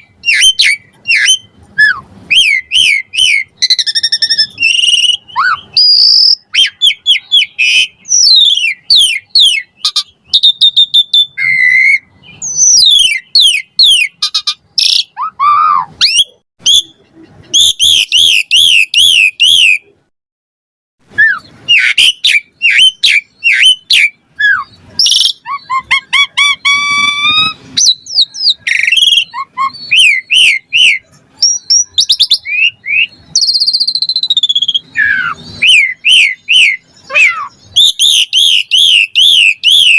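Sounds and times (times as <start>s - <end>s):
starling singing: 0.0s - 20.0s, 21.1s - 39.9s.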